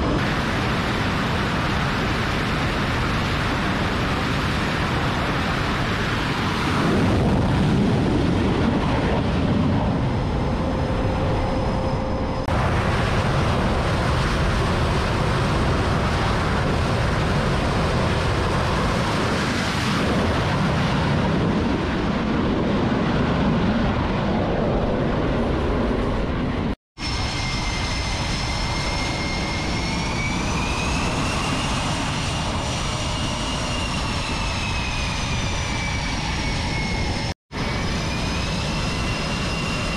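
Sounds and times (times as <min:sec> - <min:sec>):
high turbine whine: 0:00.0 - 0:39.9
jet engine roar: 0:00.0 - 0:39.9.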